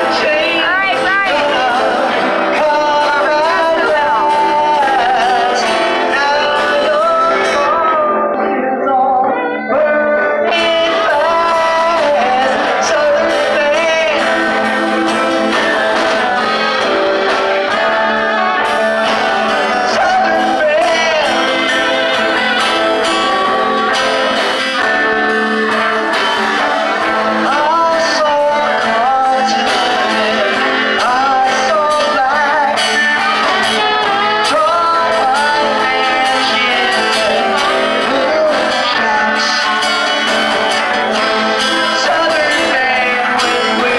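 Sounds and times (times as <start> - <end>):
electric guitars: 0.0 - 43.9
live band playing: 0.0 - 43.9
person singing: 0.0 - 43.9.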